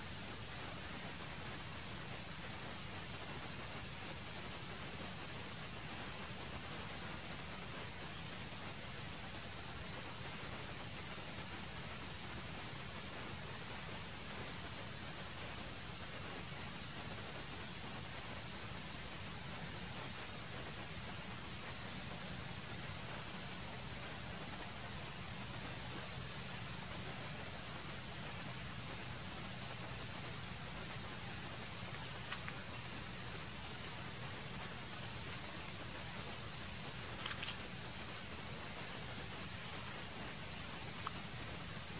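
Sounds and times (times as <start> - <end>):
high insect trill: 0.0 - 41.9
insects droning: 0.0 - 41.9.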